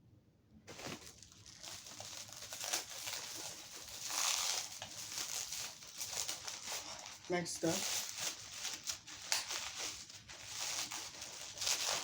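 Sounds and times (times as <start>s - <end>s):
plastic wrapping crinkling: 0.7s - 12.0s.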